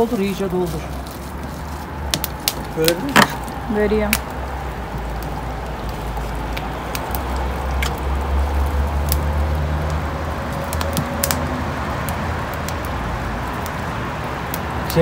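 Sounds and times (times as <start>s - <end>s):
campfire crackling and popping: 0.0s - 15.0s
low rumble of road traffic: 0.0s - 15.0s.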